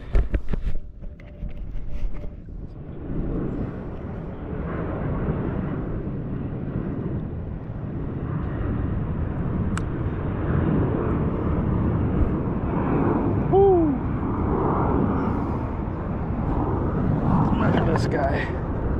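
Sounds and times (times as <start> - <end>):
airplane engines rumbling: 0.0 - 18.9.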